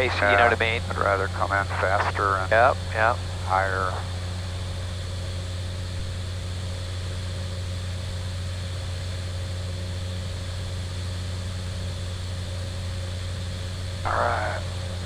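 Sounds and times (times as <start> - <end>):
turboprop engine drone in cockpit: 0.0 - 15.0.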